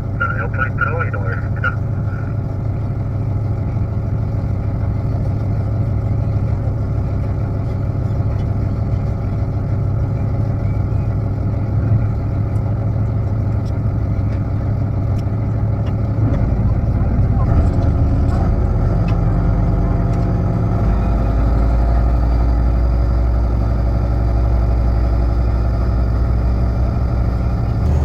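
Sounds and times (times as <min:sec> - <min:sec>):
engine droning steadily: 0:00.0 - 0:28.0.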